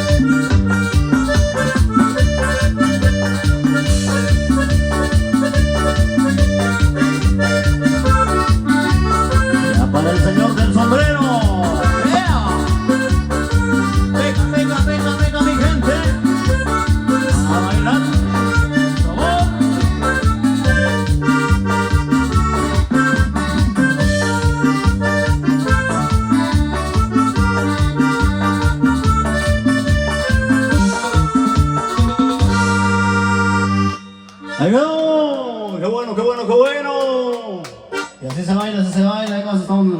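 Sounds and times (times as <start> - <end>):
electronic keyboard dance music: 0.0 - 36.8, 37.6 - 39.5.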